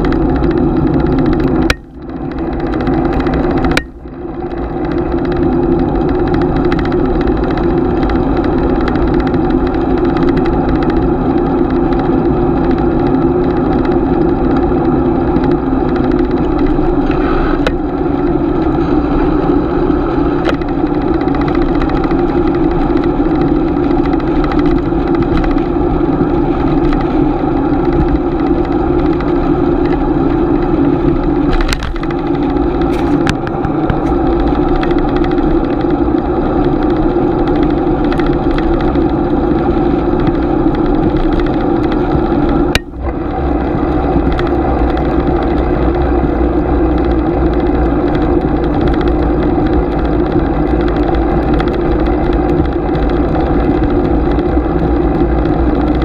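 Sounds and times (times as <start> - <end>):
bicycle tyre and wind noise: 0.0 - 56.0.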